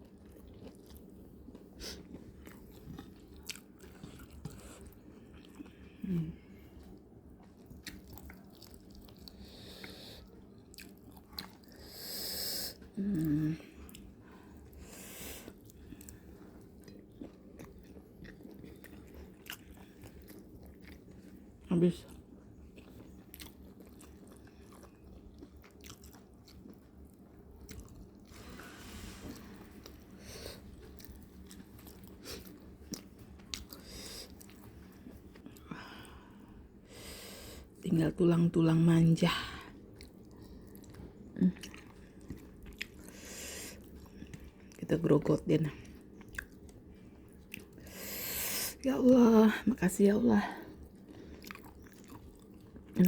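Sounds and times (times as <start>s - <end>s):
person chewing fried fish: 0.0s - 12.0s, 12.6s - 36.8s, 39.8s - 44.8s, 45.8s - 48.5s, 50.6s - 53.0s.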